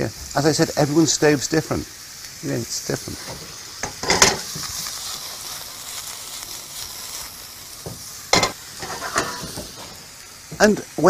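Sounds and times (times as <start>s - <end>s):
mushrooms sizzling in a pan: 0.0s - 11.0s.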